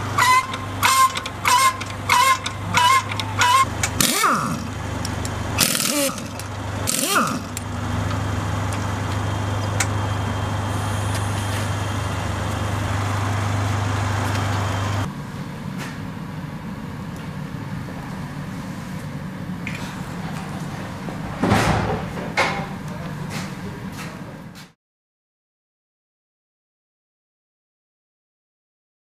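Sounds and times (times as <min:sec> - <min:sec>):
vehicle engine humming: 0:00.0 - 0:24.7.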